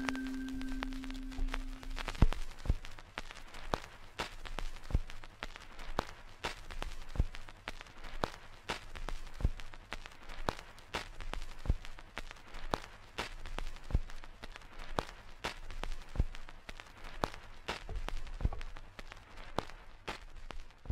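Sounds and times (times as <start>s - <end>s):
faint steady haze: 0.0s - 20.9s.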